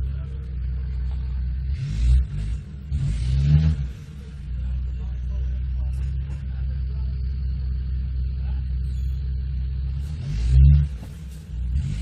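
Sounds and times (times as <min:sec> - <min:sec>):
car engine rumbling and revving: 0:00.0 - 0:12.0.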